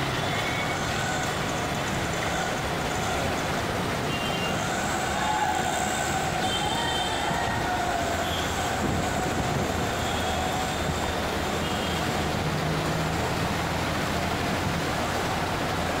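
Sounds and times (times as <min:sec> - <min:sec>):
floodwater rushing: 0:00.0 - 0:16.0
vehicle engines running: 0:00.0 - 0:16.0.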